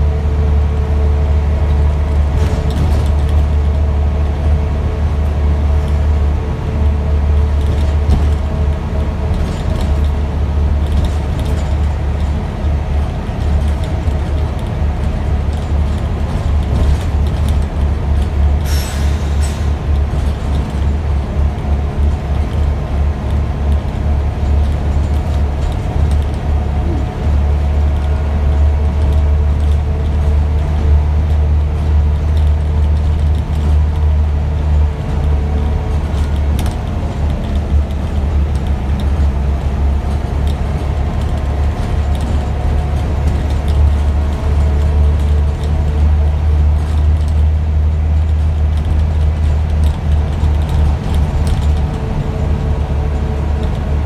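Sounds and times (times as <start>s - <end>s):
bus engine droning and whining: 0.0s - 54.0s.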